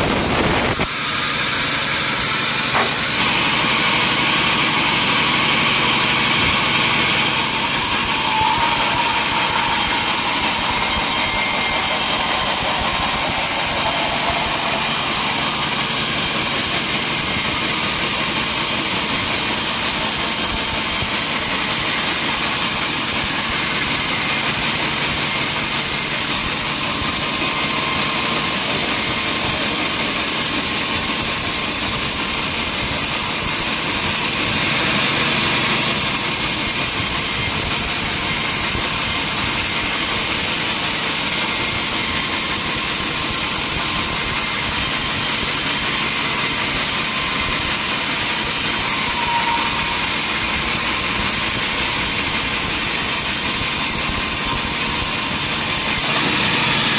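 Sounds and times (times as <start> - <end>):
saw cutting through wood: 0.0 - 56.9.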